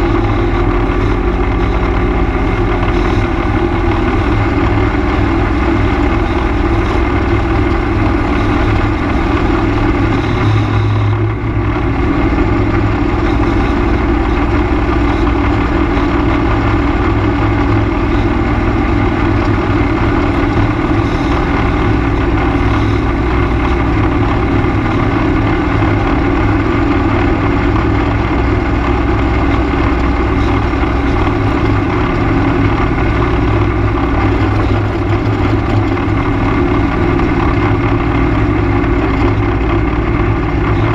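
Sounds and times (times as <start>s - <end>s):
atv engine running: 0.0s - 40.9s
tyres on gravel road: 0.0s - 40.9s.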